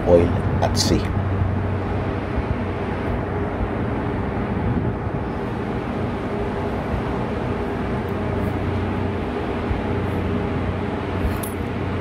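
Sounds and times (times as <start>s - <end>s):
ship machinery humming: 0.0s - 12.0s.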